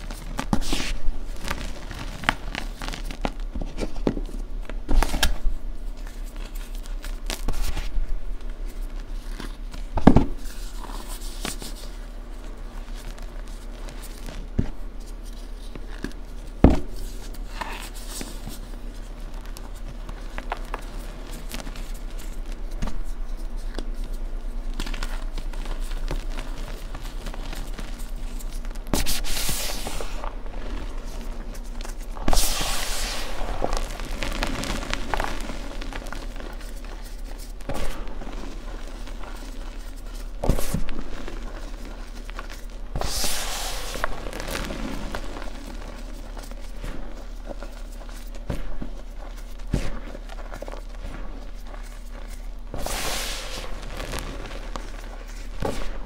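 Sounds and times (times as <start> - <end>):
chalk powder crunching: 8.9 - 56.0.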